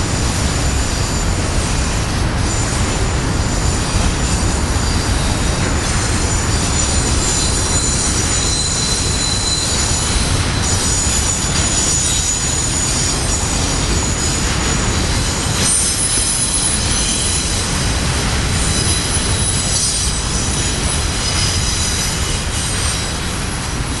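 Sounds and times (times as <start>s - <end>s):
train wheels rumbling on rail: 0.0s - 24.0s
high wheel squeals: 0.3s - 23.6s.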